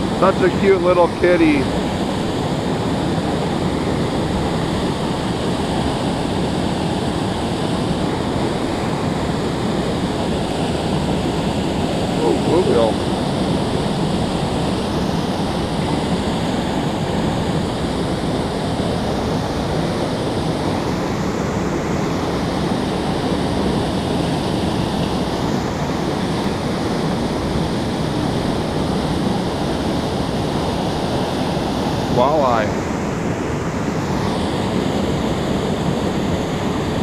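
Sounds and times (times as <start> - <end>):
water rushing through spillway: 0.0 - 37.0.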